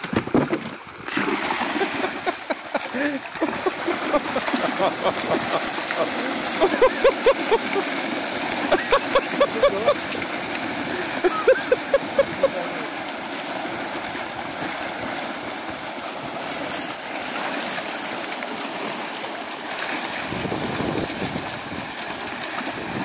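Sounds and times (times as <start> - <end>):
water rushing and splashing: 0.0 - 23.0.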